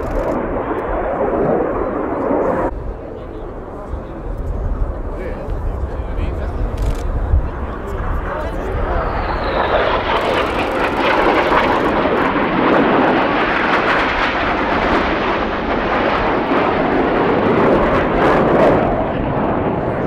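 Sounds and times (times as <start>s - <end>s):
jets flying past: 0.0s - 3.5s, 4.9s - 20.0s.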